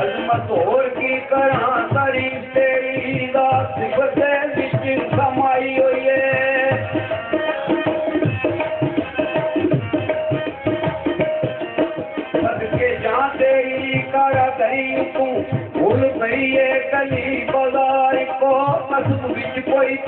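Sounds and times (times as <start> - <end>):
tabla rhythm: 0.0 - 20.0.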